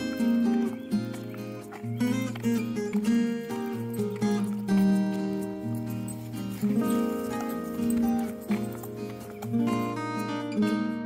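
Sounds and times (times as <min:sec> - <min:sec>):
plucked instrumental melody: 0:00.0 - 0:11.0.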